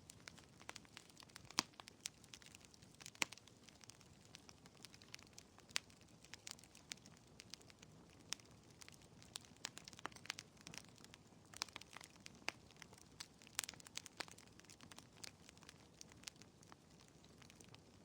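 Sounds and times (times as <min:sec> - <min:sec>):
burning logs popping and snapping: 0:00.0 - 0:18.0
soft hiss of flames: 0:00.0 - 0:18.0.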